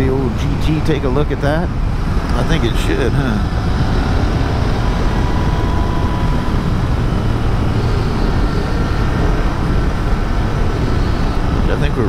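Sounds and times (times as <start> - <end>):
motorcycle engine cruising: 0.0 - 12.0
wind noise on microphone: 1.7 - 12.0.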